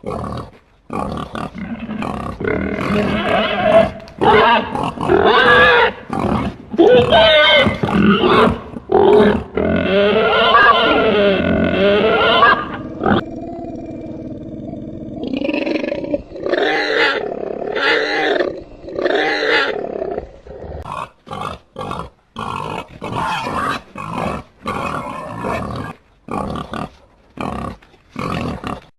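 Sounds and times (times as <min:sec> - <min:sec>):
wild boar calls: 0:00.0 - 0:28.9
wild boar growling: 0:00.0 - 0:28.9.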